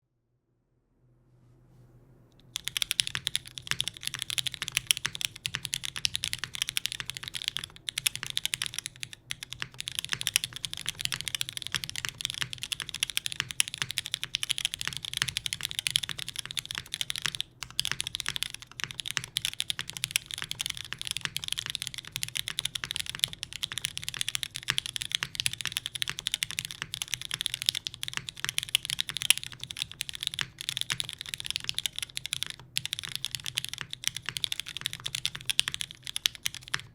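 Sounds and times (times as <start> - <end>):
fast typing on mechanical keyboard: 2.4 - 36.9.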